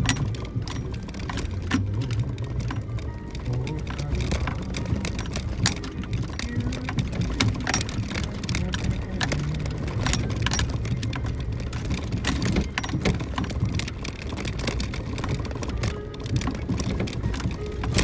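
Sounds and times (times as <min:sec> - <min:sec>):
engine and road rumble: 0:00.0 - 0:18.0
stones knocking and body rattling: 0:00.0 - 0:18.0.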